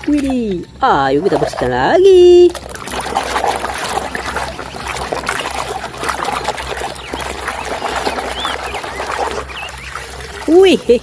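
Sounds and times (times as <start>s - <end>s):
birds chirping: 0.0s - 11.0s
water splashing and dribbling: 0.0s - 11.0s.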